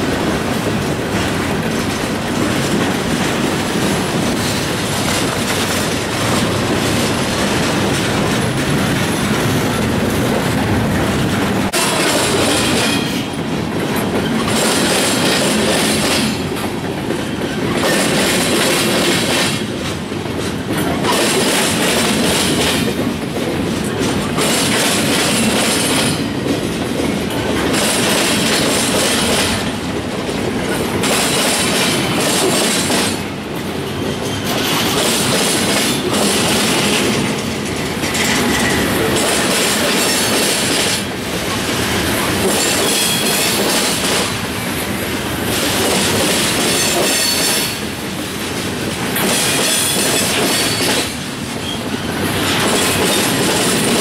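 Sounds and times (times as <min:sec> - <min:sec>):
freight car wheels rumbling and clacking: 0:00.0 - 0:47.6.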